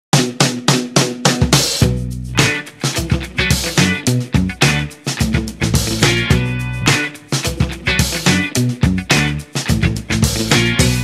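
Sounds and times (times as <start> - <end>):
steady drum beat: 0.1 - 11.0
bass line: 1.8 - 11.0.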